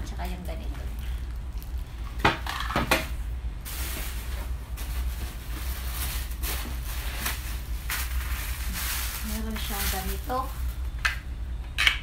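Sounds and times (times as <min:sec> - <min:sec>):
low steady hum: 0:00.0 - 0:12.0
plastic packaging rustling: 0:00.4 - 0:11.0.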